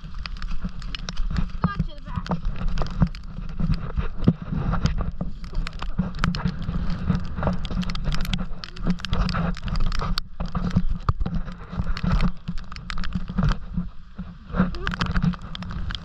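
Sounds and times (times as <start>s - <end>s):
rain pattering on hard surfaces: 0.0s - 16.0s
wind buffeting microphone: 0.0s - 16.0s.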